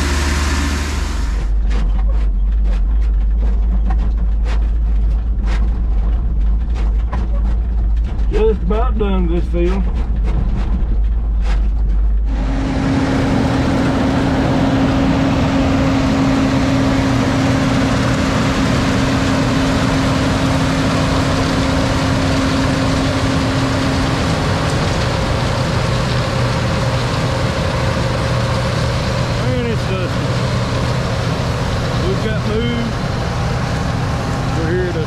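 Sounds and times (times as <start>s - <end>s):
combine harvester running: 0.0s - 35.0s
steady machine hum: 0.0s - 35.0s.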